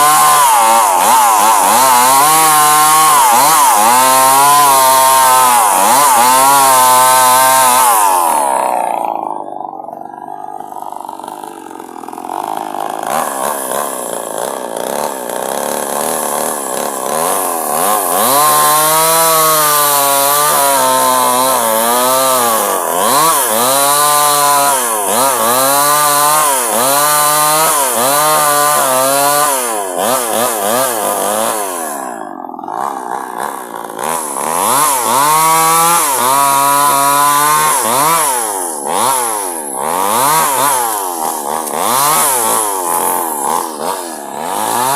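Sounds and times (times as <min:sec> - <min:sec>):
chainsaw cutting a log: 0:00.0 - 0:44.9.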